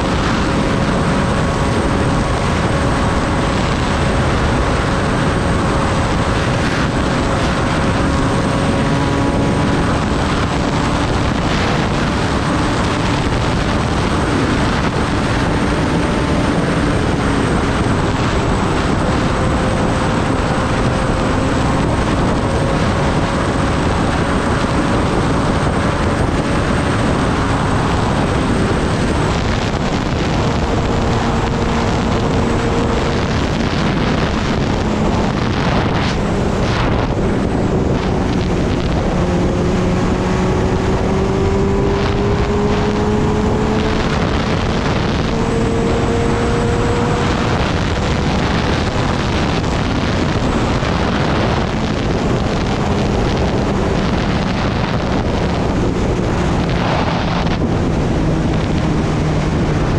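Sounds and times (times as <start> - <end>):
motorcycle engine cruising: 0.0 - 59.9
wind rush on microphone: 0.0 - 59.9.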